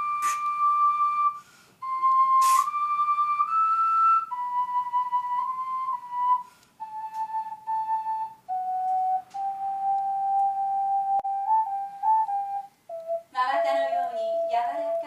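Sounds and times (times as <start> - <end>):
ocarina playing slow melody: 0.0 - 13.4.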